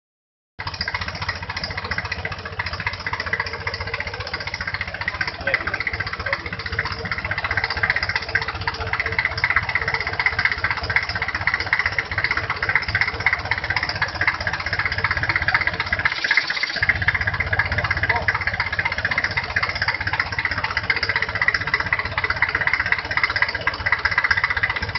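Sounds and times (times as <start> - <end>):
diesel engine running: 0.6 - 24.9.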